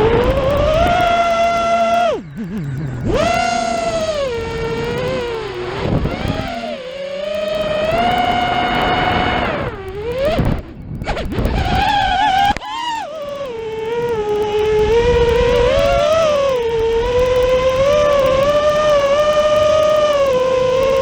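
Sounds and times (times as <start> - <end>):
quadcopter motors whining: 0.0 - 21.0
sharp click: 0.0 - 21.0.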